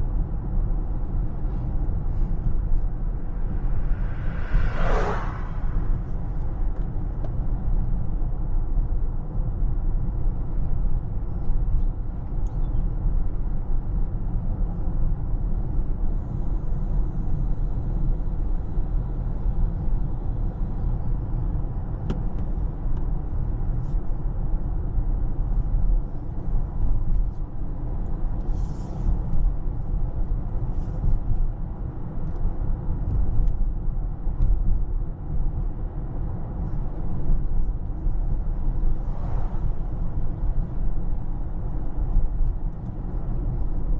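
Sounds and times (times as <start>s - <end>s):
road and tyre rumble: 0.0s - 43.9s.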